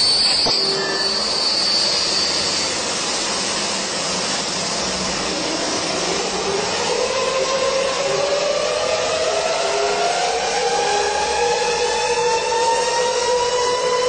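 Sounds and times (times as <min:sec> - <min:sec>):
high thin engine whine: 0:00.0 - 0:14.0
jet engines rushing: 0:00.0 - 0:14.0.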